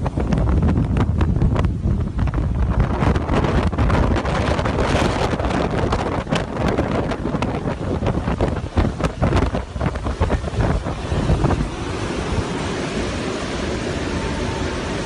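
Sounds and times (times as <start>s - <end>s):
storm surf rushing: 0.0s - 15.0s
wind buffeting microphone: 0.0s - 15.0s.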